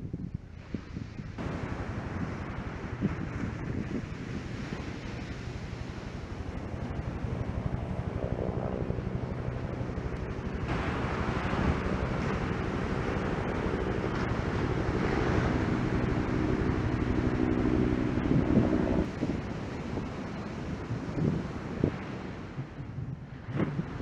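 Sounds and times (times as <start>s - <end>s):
wind buffeting microphone: 0.0s - 24.0s
surf breaking on beach: 0.7s - 7.7s, 8.9s - 24.0s.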